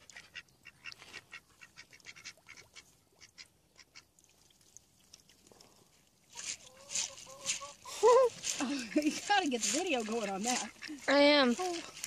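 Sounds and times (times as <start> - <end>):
mud splashes and squelches: 0.0 - 12.0.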